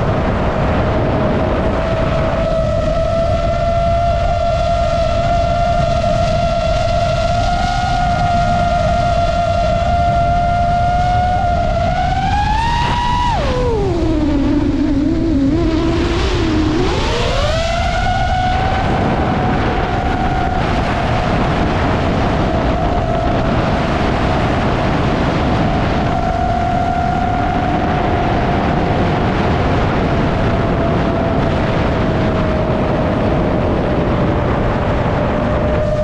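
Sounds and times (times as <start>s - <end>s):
drone propellers whining: 0.0s - 36.0s
rushing noise: 0.0s - 36.0s.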